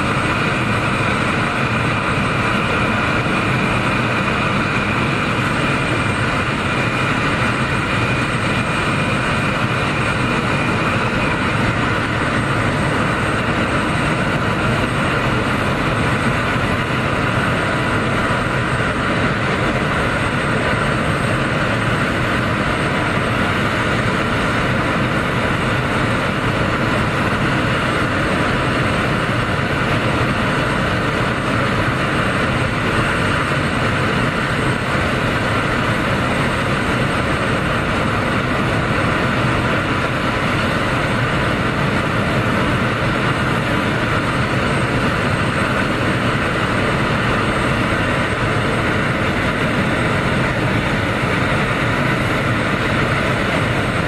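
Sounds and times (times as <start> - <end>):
jet engine noise: 0.0 - 54.0.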